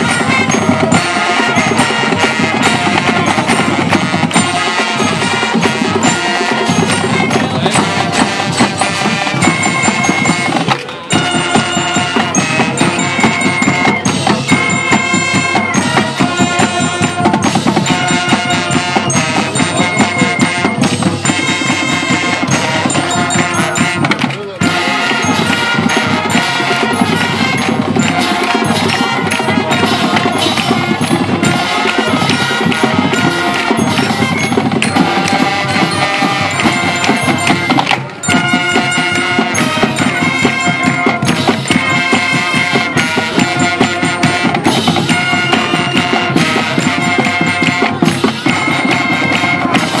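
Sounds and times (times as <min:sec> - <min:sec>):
marching band brass: 0:00.0 - 0:50.0
snare and bass drums: 0:00.0 - 0:50.0.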